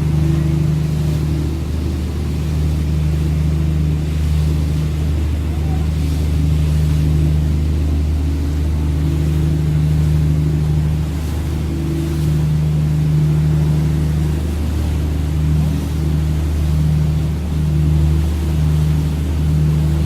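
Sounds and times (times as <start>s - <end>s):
boat engine low hum: 0.0s - 20.0s.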